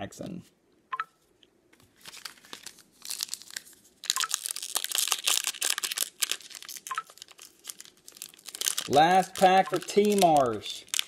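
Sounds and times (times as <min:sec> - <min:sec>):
wrapper crinkling and tearing: 0:01.8 - 0:11.0.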